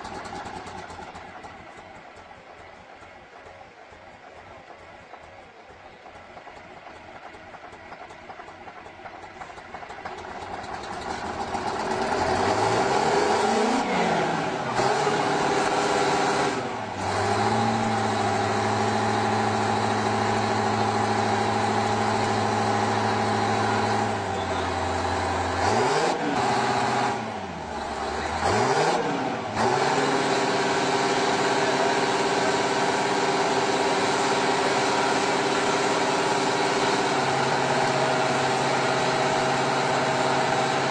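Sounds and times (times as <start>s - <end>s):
tractor diesel engine revving: 0.0s - 40.9s.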